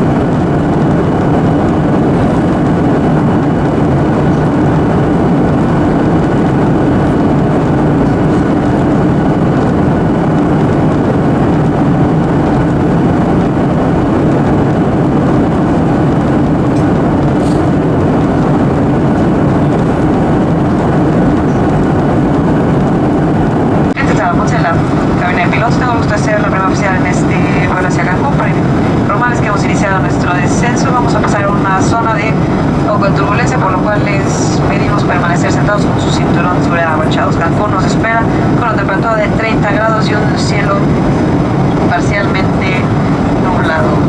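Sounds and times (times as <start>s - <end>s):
faint steady whines: 0.0s - 44.0s
jet engine drone: 0.0s - 44.0s
rushing airflow: 0.0s - 44.0s.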